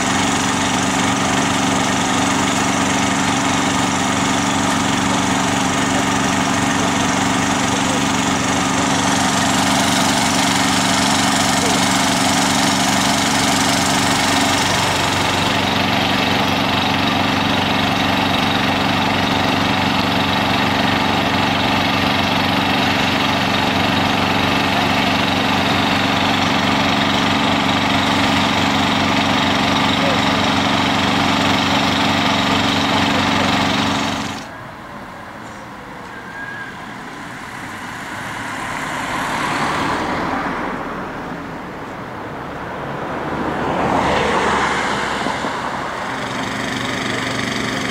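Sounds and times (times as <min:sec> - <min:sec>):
road and wind noise: 0:00.0 - 0:32.8, 0:33.4 - 0:47.9
diesel engine idling: 0:00.0 - 0:47.9.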